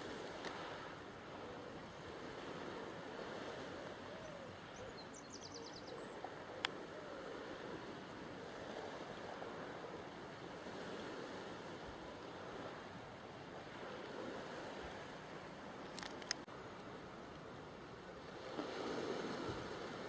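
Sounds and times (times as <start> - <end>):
distant surf: 0.0 - 20.0
wind: 0.0 - 20.0.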